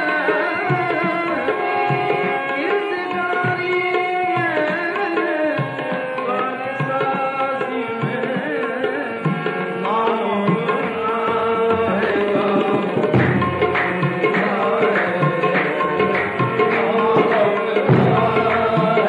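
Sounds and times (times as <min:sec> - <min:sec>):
harmonium: 0:00.0 - 0:19.0
person singing: 0:00.0 - 0:19.0
tabla drumming: 0:00.0 - 0:19.0.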